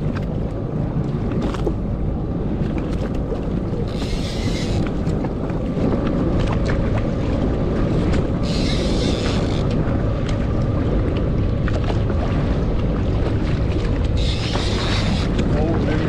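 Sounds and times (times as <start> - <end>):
boat engine running: 0.0 - 16.0
water noise: 0.0 - 16.0
wind on microphone: 0.0 - 16.0.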